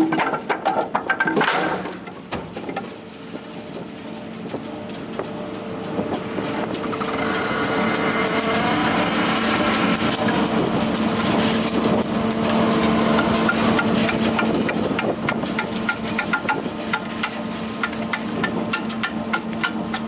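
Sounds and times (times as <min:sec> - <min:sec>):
wood chipper engine hum: 0:00.0 - 0:20.0.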